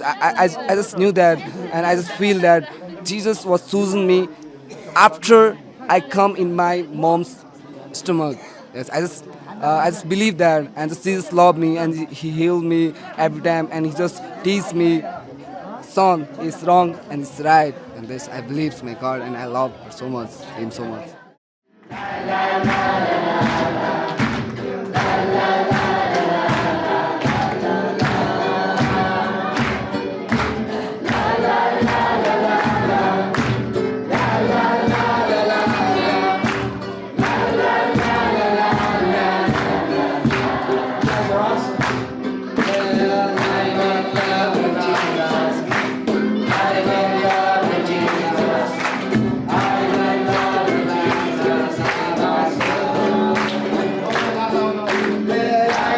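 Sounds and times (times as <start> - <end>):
group singing gospel song: 0.0 - 7.4, 8.0 - 15.2, 15.8 - 21.1, 21.8 - 55.9.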